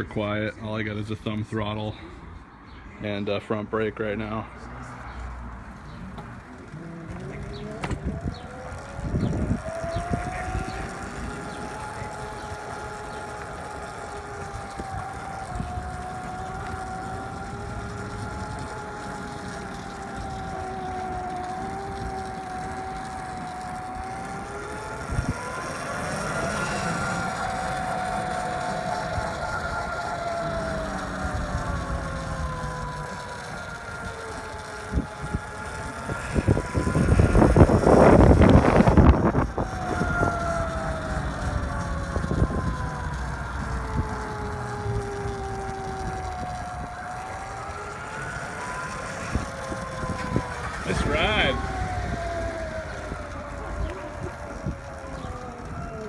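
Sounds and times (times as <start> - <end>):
electric motor whine: 4.8 - 56.0
wind noise on microphone: 5.8 - 56.0.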